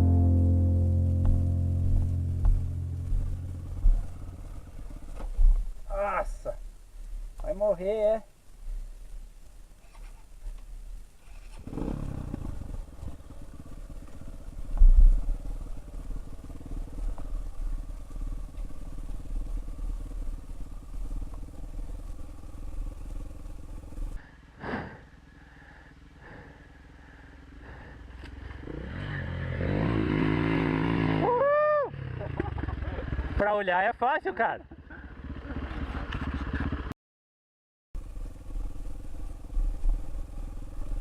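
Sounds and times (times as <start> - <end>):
motorcycle engine revving: 0.0 - 5.6, 11.3 - 33.4, 34.8 - 37.0, 38.0 - 41.0.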